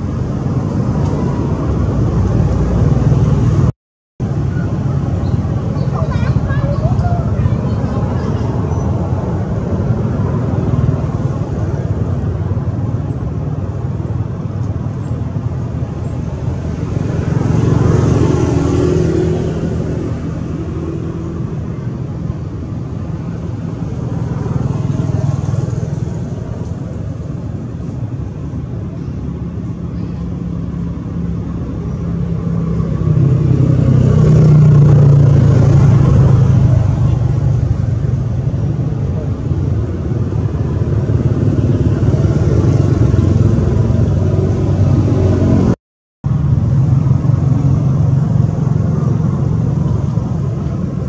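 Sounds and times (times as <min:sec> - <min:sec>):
vehicle engines passing by: 0:00.0 - 0:51.0.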